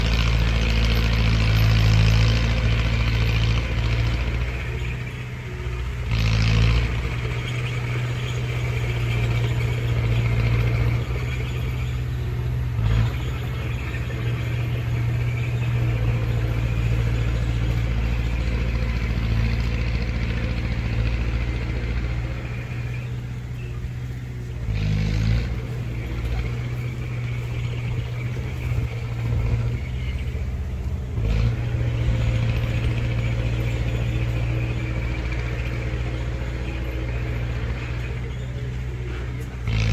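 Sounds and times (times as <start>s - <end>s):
heavy diesel machinery engine hum: 0.0s - 39.9s.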